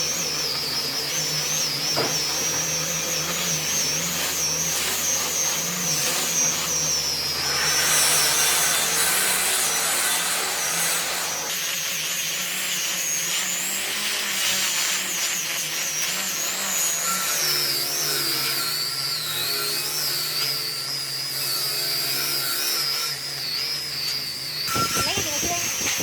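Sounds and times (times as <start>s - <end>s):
power tool motor whine on wood: 0.0s - 26.0s.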